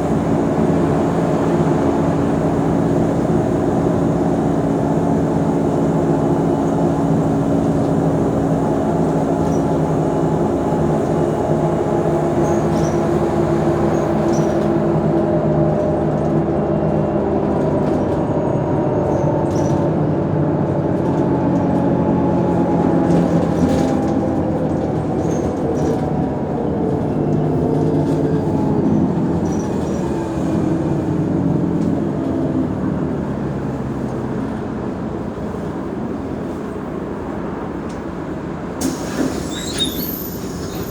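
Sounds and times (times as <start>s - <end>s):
bus engine running: 0.0s - 40.9s.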